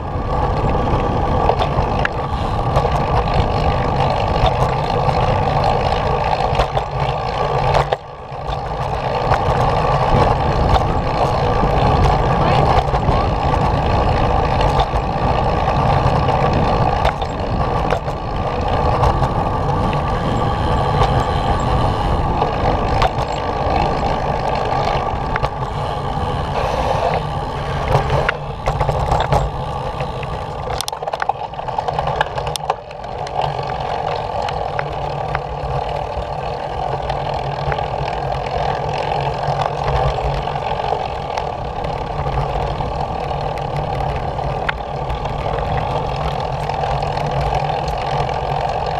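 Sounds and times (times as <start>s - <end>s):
wheels rolling over concrete: 0.0s - 48.9s.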